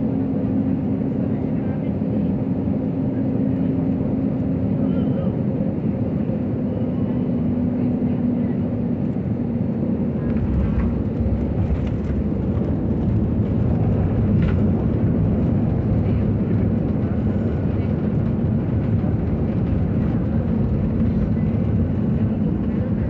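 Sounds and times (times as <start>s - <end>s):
jet cabin rumble: 0.0s - 23.0s.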